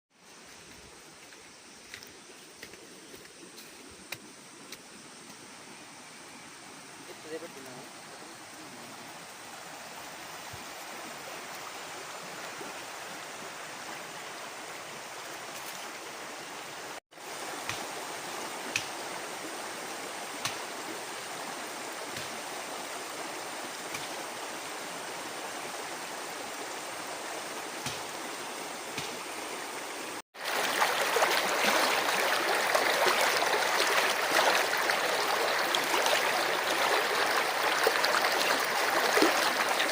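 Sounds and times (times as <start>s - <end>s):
stream rushing over stones: 6.5s - 39.9s.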